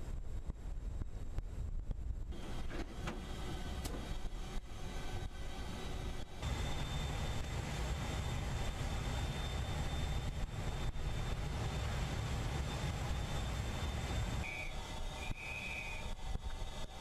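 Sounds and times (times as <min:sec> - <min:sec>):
faint high whine: 0:00.0 - 0:17.0
low machinery rumble: 0:00.0 - 0:17.0.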